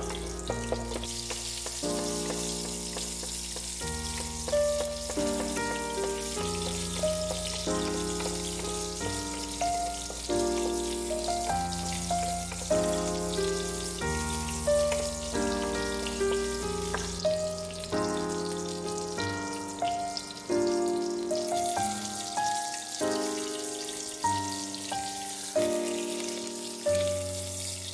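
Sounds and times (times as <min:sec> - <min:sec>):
background music chords: 0:00.0 - 0:27.6
patty sizzling in oil: 0:00.0 - 0:27.9.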